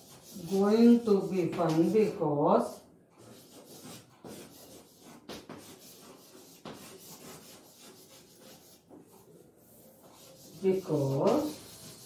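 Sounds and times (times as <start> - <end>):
chalk tapping on board: 0.0 - 2.1, 3.2 - 9.2, 10.0 - 12.0
chalk scratching on blackboard: 0.0 - 12.0.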